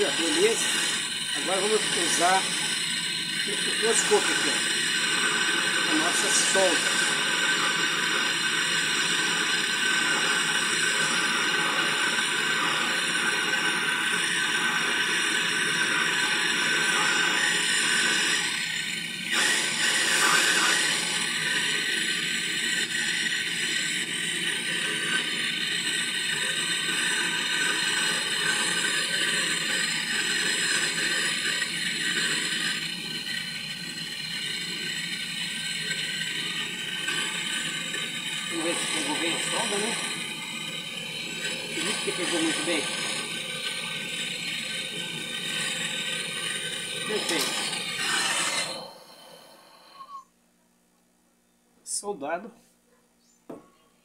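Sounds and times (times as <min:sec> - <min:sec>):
gas torch hissing: 0:00.0 - 0:50.2.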